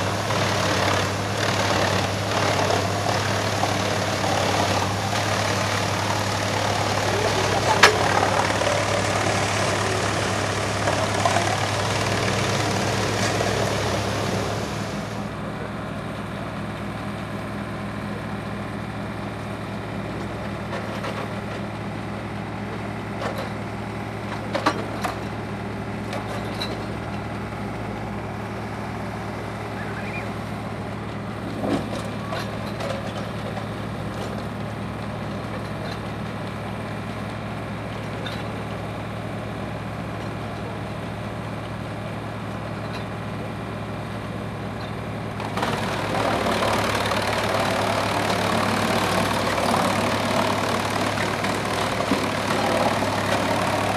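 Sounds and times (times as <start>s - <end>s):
tractor engine hum: 0.0s - 53.9s
wood chipper grinding logs: 0.0s - 53.9s.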